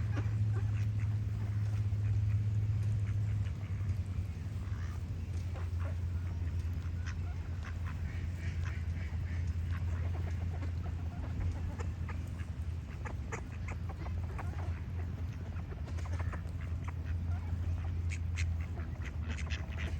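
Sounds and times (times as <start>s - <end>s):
ducks quacking: 0.0s - 19.9s
steady low hum: 0.0s - 19.9s.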